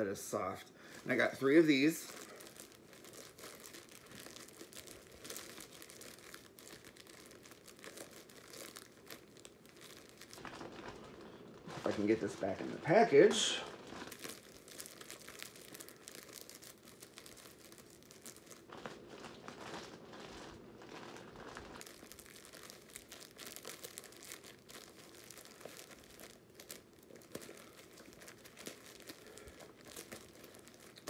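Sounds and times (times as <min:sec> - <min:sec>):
plastic packaging crinkling: 0:00.0 - 0:31.0.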